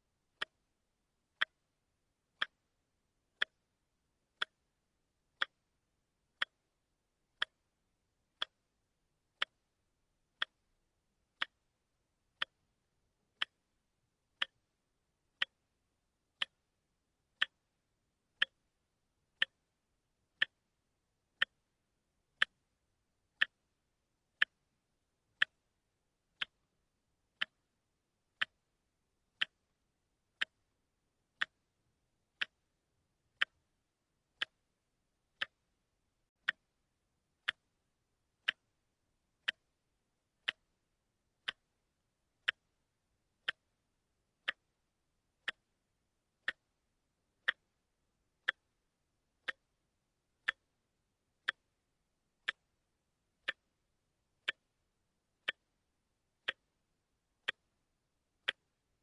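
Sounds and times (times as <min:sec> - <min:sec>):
watch ticking: 0:00.2 - 0:59.0.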